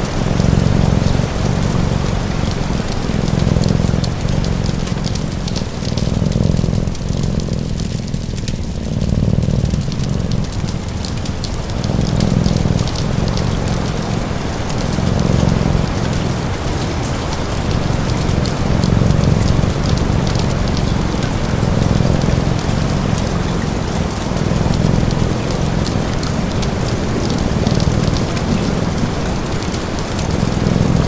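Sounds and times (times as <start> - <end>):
cat purring: 0.0 - 31.0
steady rain: 0.0 - 31.0
wood fire crackling: 0.0 - 31.0.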